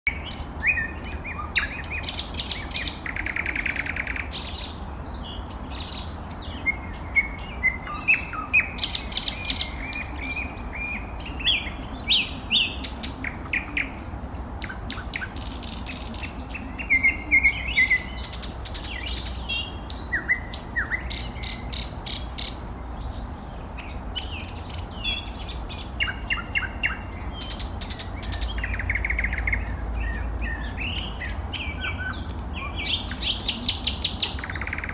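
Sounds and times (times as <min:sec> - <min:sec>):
nightingale singing: 0:00.1 - 0:34.9.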